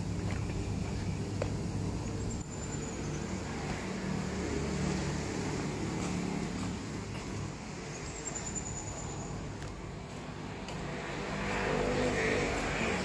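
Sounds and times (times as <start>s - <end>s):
diesel locomotives idling: 0.0s - 13.0s.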